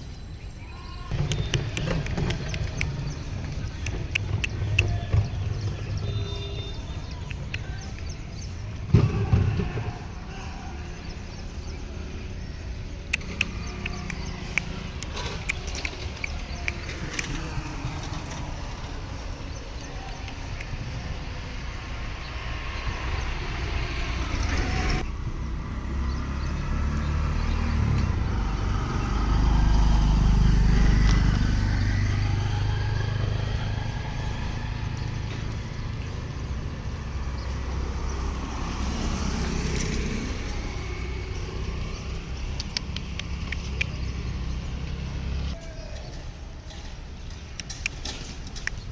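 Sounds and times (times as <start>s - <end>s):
road traffic: 0.0s - 48.9s
vehicle passing close: 1.1s - 48.9s.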